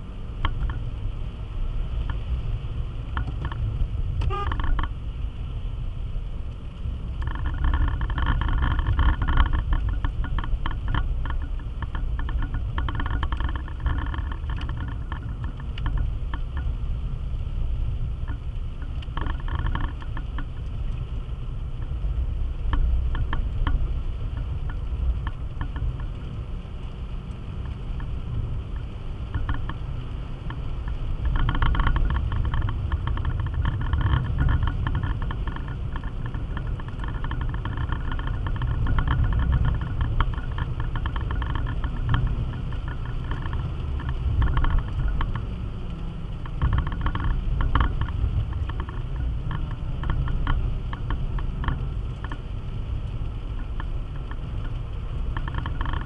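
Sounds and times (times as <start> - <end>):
engine and tyres rumbling: 0.0 - 56.0.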